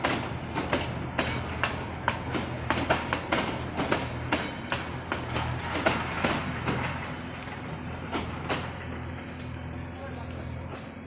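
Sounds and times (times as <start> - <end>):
train wheels clacking over rail joints: 0.0 - 11.0.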